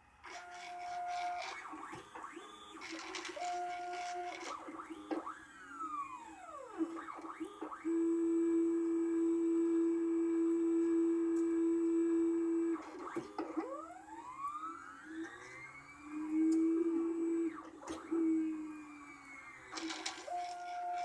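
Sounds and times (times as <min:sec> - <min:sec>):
stepper motor whine: 0:00.0 - 0:21.0.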